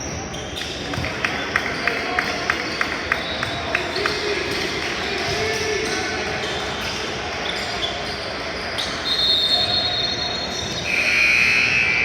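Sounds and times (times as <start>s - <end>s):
crowd voices: 0.0s - 12.0s.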